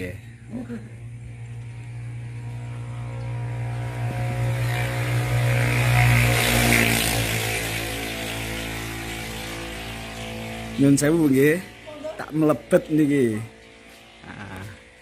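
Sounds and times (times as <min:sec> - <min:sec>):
passing motor drone: 0:00.0 - 0:15.0.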